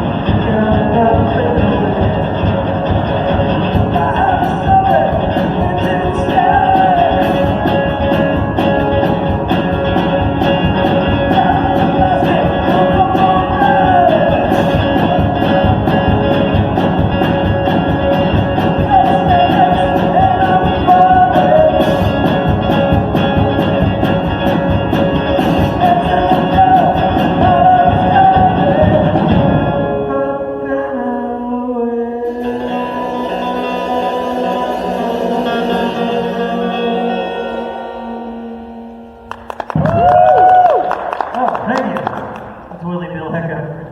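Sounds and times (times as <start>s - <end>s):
person singing: 0.0s - 39.0s
guitar: 0.0s - 43.9s.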